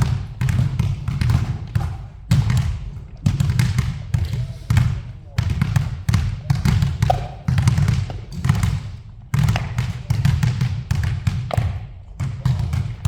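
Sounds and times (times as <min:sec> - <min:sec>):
basketball bouncing on hard court: 0:00.0 - 0:13.0.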